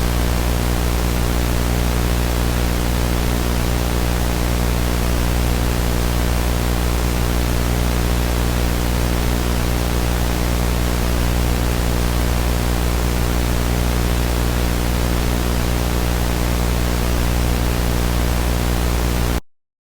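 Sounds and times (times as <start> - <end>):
low buzzing hum: 0.0 - 19.4
static hiss: 0.0 - 19.4.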